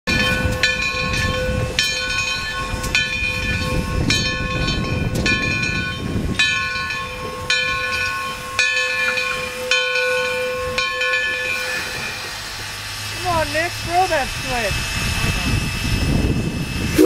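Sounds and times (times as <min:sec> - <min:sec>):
locomotive bell ringing: 0:00.1 - 0:14.8
locomotive rumbling along track: 0:00.1 - 0:17.0.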